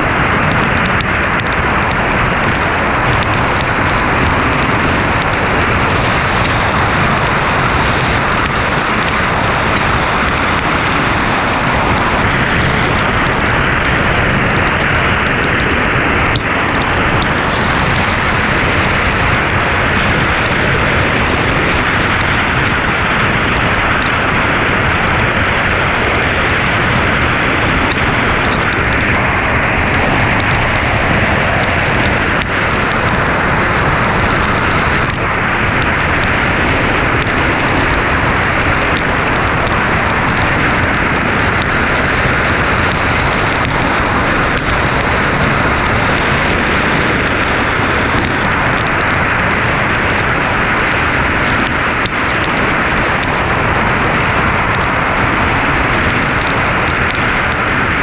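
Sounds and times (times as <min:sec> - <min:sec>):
car driving on wet road: 0:00.0 - 0:58.0
deep rumble: 0:00.0 - 0:58.0
heavy rain: 0:00.0 - 0:58.0
wind: 0:00.0 - 0:58.0.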